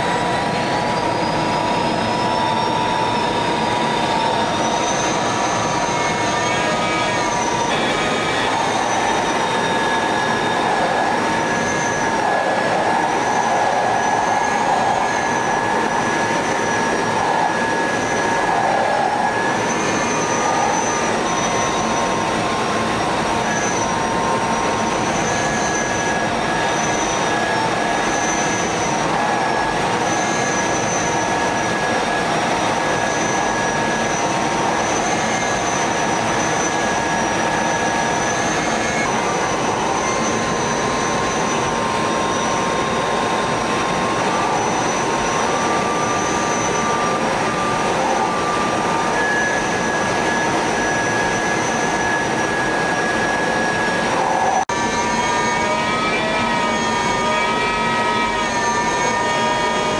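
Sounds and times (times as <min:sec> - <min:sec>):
jet engine and airflow rush: 0:00.0 - 0:54.7
high whine: 0:00.0 - 0:59.9.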